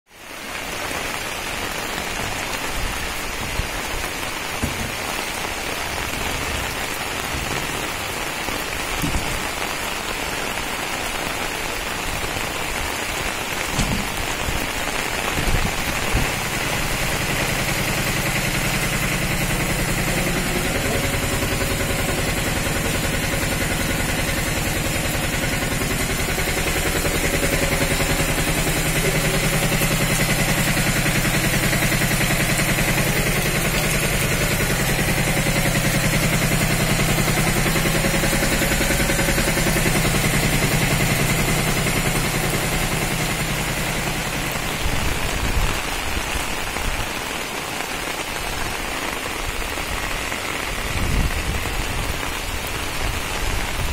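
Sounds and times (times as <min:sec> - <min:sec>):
heavy rain on wet ground: 0:00.1 - 0:53.9
vehicle engine idling: 0:00.3 - 0:53.9.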